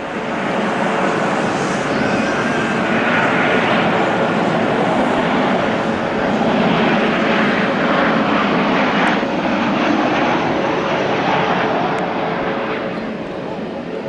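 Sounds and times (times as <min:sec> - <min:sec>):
jet airliner landing: 0:00.0 - 0:14.0.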